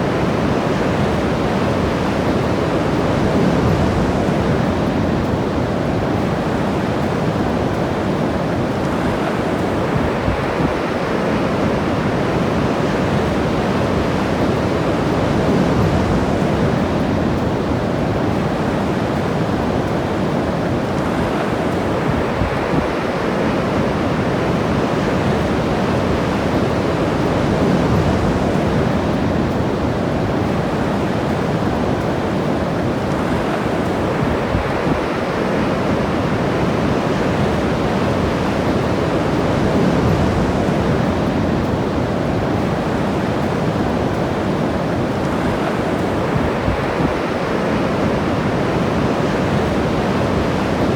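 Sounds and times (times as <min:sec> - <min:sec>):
ocean surf washing on shore: 0:00.0 - 0:50.9.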